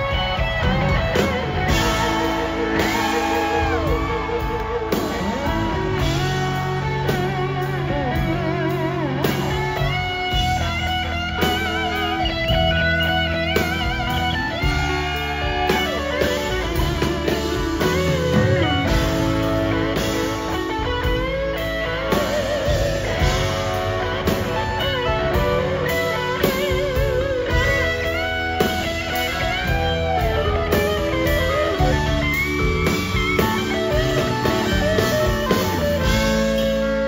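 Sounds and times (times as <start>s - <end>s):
bass and drums: 0.0s - 37.0s
electric guitar with bent notes: 0.0s - 37.0s.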